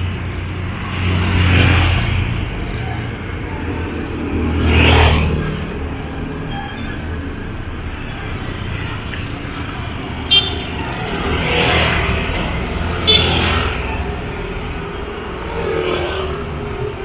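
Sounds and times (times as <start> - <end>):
road traffic rumbling: 0.0 - 17.0.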